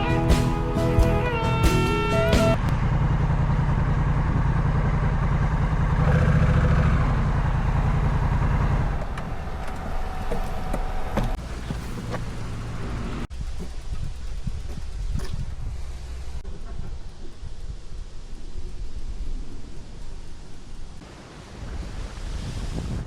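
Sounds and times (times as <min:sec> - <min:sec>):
motorcycle engine drone: 0:00.0 - 0:21.0.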